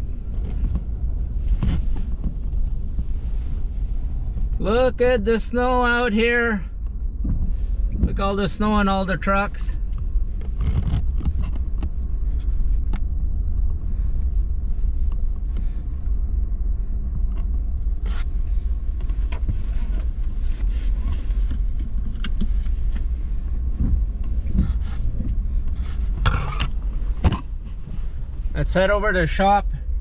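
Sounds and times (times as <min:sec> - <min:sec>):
vehicle rumble from inside cab: 0:00.0 - 0:30.0.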